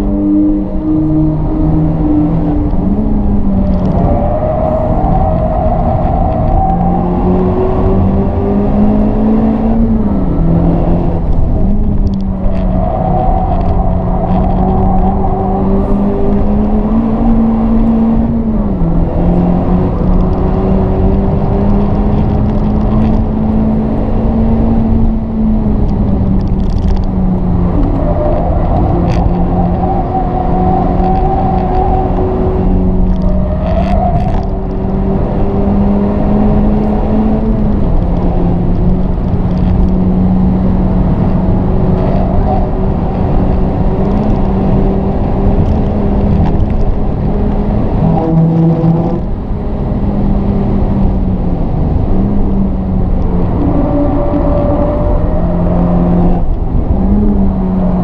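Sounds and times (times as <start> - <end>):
car engine accelerating hard: 0.0 - 58.0
tyre and wind noise: 0.0 - 58.0.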